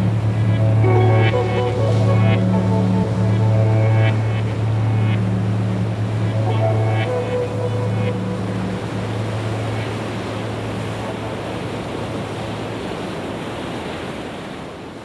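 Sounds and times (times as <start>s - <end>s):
low hum: 0.0s - 12.2s
water noise: 0.0s - 15.0s.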